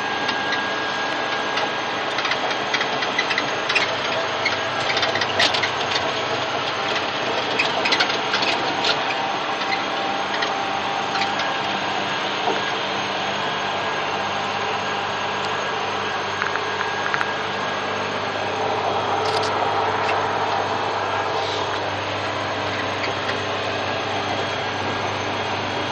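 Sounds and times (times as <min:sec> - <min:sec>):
bulldozer engine running: 0:00.0 - 0:25.9.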